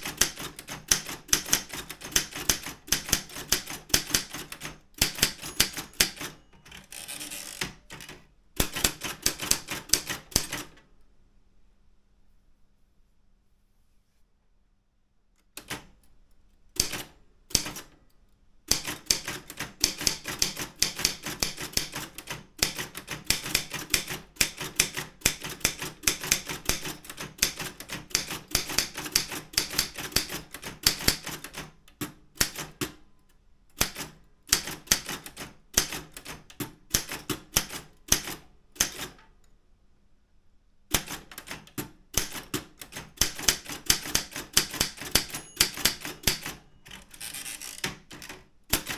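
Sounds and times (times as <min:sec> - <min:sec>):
manual typewriter typing: 0:00.0 - 0:10.8, 0:16.8 - 0:18.0, 0:18.7 - 0:33.0, 0:33.7 - 0:39.2, 0:40.9 - 0:48.9.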